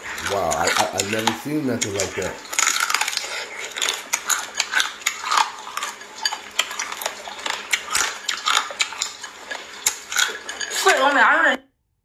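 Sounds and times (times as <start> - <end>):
crab shells crunching: 0.0 - 11.2.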